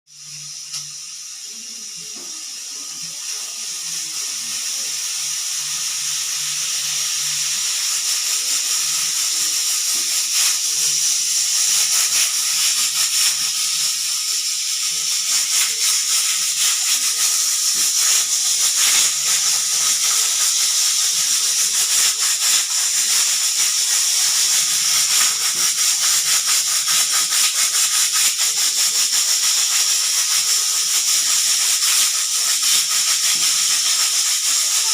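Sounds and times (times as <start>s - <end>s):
pressure cooker whistling: 0.1s - 34.9s.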